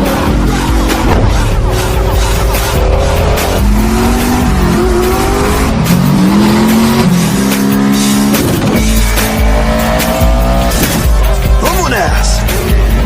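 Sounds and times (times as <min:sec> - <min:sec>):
car engine revving: 0:00.0 - 0:13.0
music: 0:00.0 - 0:13.0.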